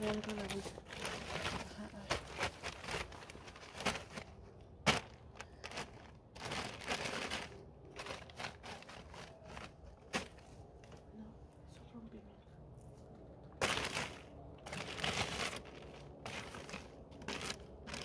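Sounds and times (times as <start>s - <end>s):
clothing rustling in a bag: 0.0s - 11.1s, 13.6s - 18.0s.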